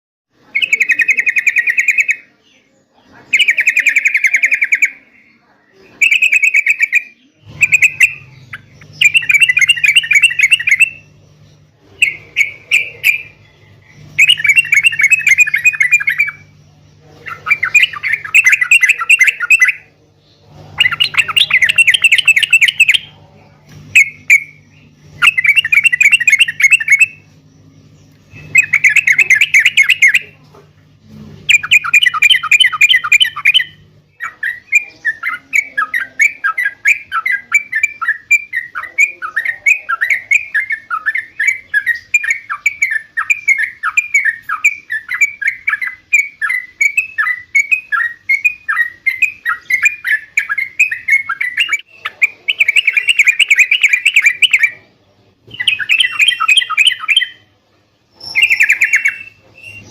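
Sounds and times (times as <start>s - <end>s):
bulbul singing: 0.3s - 59.9s.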